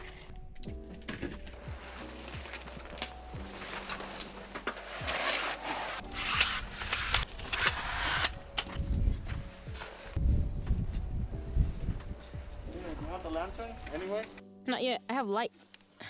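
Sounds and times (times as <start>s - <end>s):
rustling and scraping of objects: 0.0s - 14.4s.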